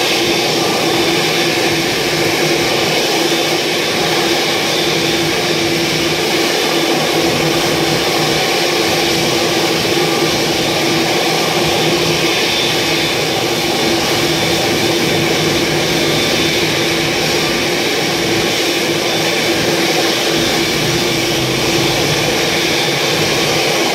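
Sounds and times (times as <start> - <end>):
jet turbine whine and rush: 0.0 - 23.9.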